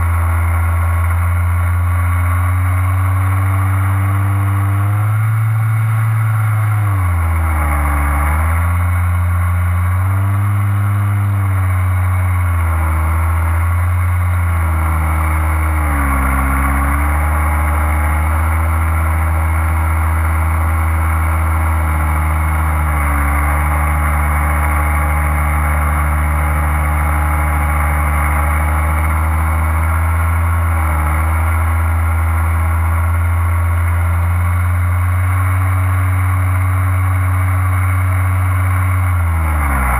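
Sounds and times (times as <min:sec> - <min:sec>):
small aircraft propeller engine: 0:00.0 - 0:39.9.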